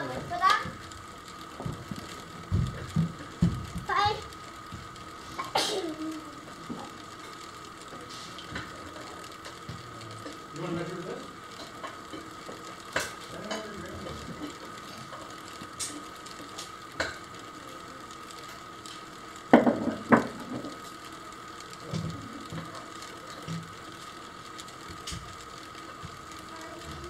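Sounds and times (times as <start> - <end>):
wind-up fan whirring: 0.0 - 27.0.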